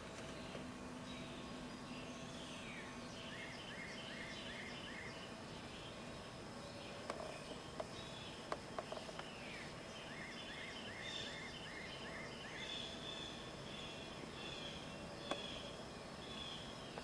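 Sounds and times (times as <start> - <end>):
bird chirping: 0.0 - 17.0
faint steady background: 0.0 - 17.0.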